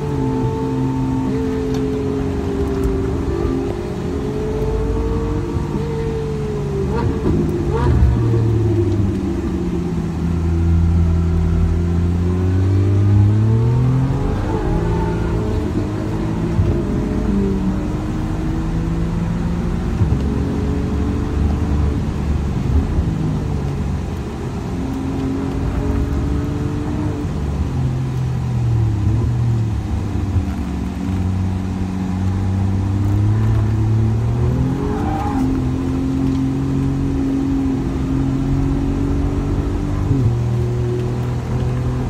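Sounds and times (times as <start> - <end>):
car engine accelerating in cabin: 0.0 - 42.0.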